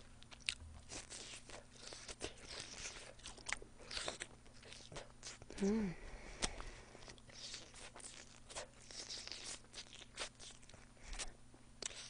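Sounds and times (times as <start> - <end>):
person chewing crispy food: 0.0 - 5.7, 6.3 - 12.0.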